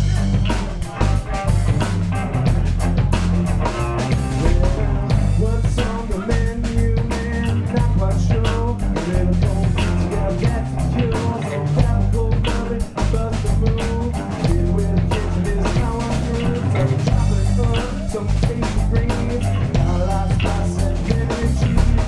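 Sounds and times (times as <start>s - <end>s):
bass guitar: 0.0s - 22.0s
drum kit with rimshots: 0.0s - 22.0s
electric guitar: 0.0s - 22.0s.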